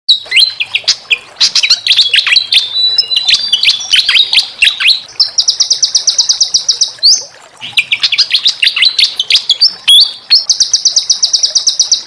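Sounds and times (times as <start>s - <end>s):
small songbird singing: 0.1s - 12.0s.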